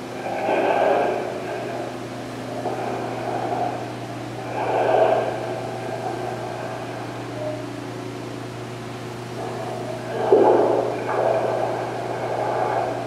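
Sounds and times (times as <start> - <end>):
exhaled bubbles: 0.0 - 13.0
low hum: 0.0 - 13.0
diver breathing through regulator: 0.1 - 13.0.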